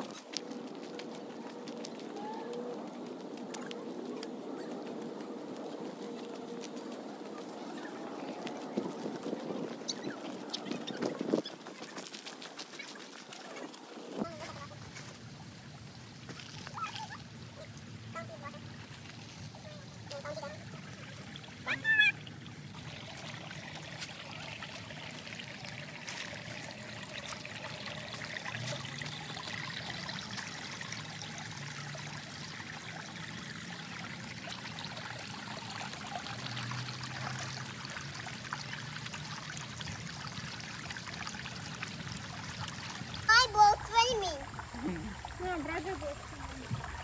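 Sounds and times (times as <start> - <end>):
creek trickling over stones: 0.0 - 47.0.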